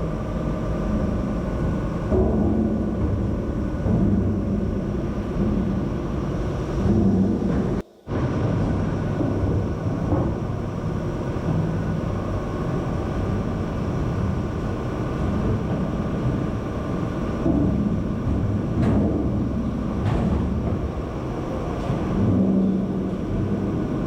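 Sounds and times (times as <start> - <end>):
machinery drone: 0.0 - 24.0.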